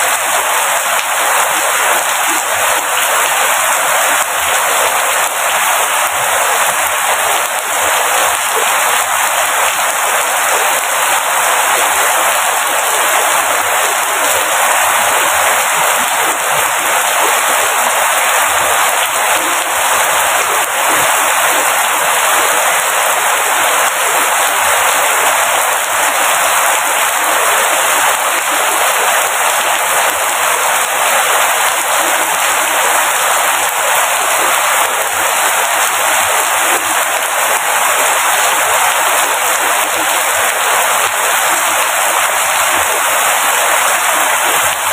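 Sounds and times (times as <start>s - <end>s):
dense rainfall: 0.0s - 44.9s.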